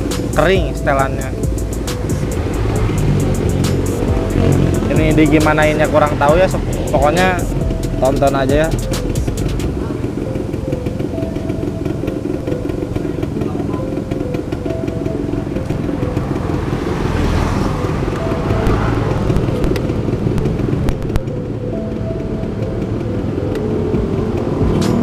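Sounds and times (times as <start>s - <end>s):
two-stroke motorcycle engine: 0.0s - 25.0s.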